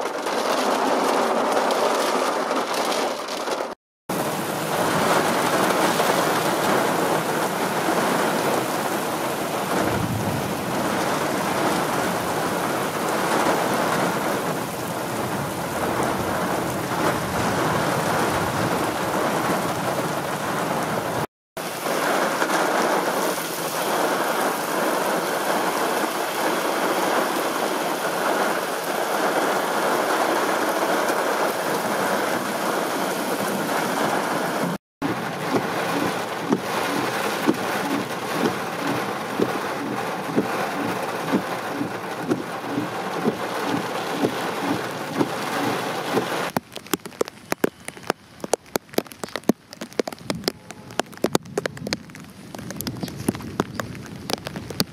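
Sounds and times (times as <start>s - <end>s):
heavy rain: 0.0s - 54.9s
storm wind: 4.1s - 54.9s.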